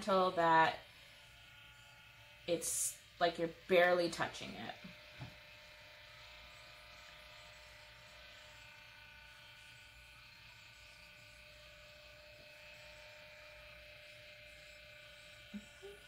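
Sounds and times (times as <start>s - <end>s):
small electric motor hum: 0.0s - 16.0s.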